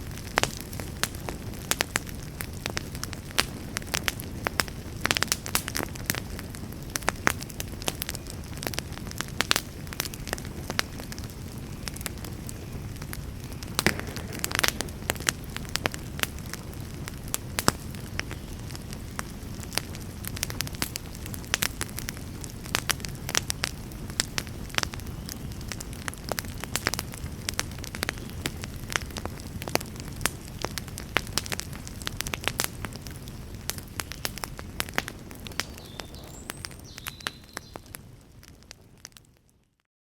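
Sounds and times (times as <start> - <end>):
low steady fire rumble: 0.0 - 39.8
wood fire crackling and popping: 0.0 - 39.8.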